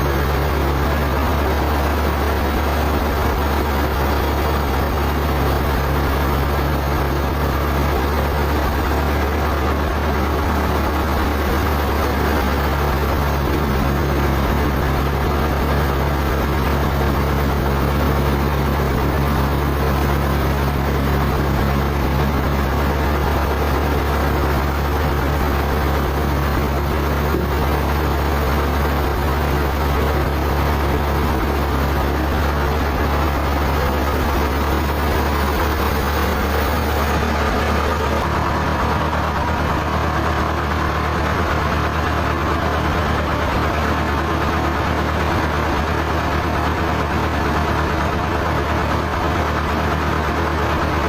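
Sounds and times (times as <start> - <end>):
sawmill machinery drone: 0.0 - 51.0.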